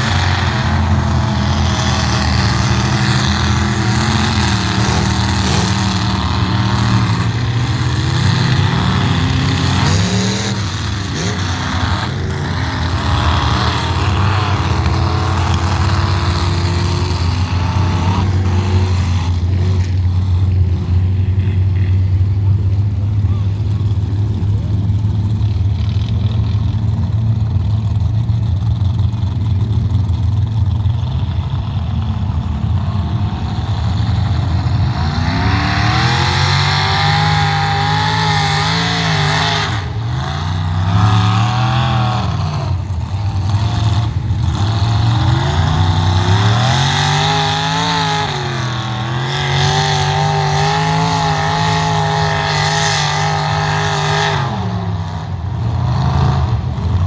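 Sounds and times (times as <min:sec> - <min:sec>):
pickup truck engine revving: 0:00.0 - 0:57.0.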